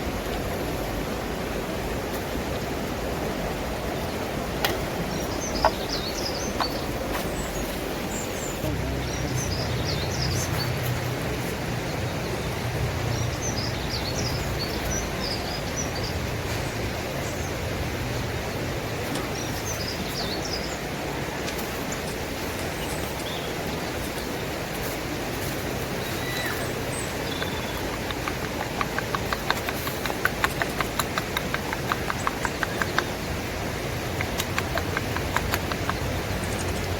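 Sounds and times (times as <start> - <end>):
steady rushing noise: 0.0 - 36.9
small birds chirping: 3.8 - 36.9.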